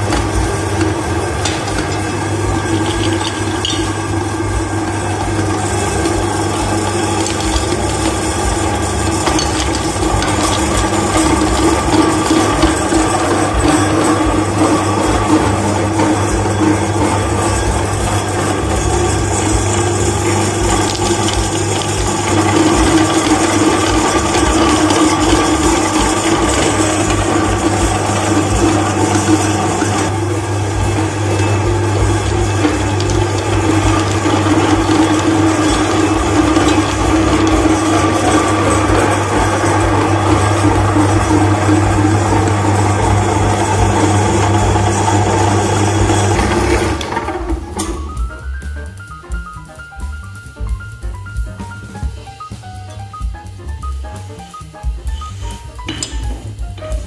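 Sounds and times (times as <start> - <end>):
electric meat grinder running: 0.0 - 48.4.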